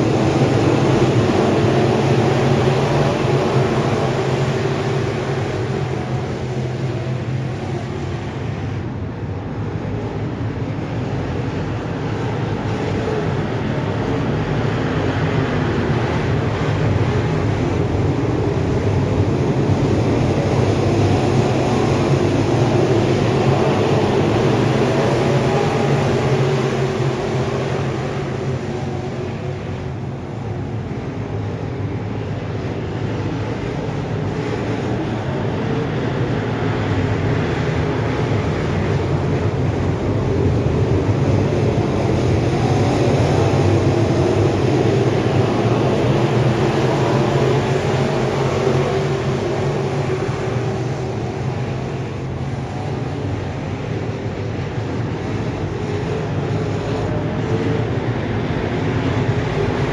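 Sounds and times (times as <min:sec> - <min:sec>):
race car engines roaring: 0:00.0 - 0:59.9.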